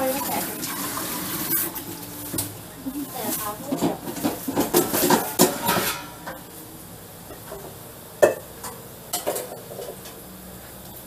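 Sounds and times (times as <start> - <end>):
utensils and dishes clattering: 0.0 - 6.5, 7.3 - 10.2.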